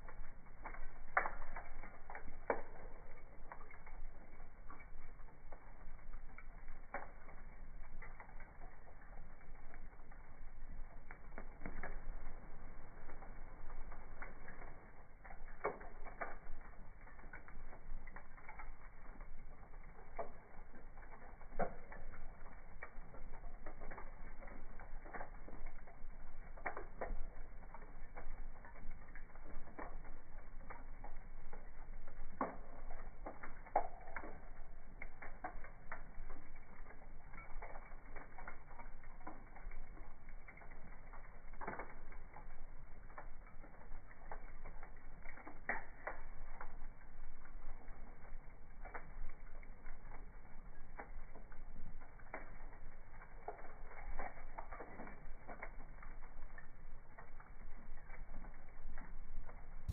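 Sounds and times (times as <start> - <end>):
low hiss: 0.0 - 59.9
wood fire crackling: 0.0 - 59.9.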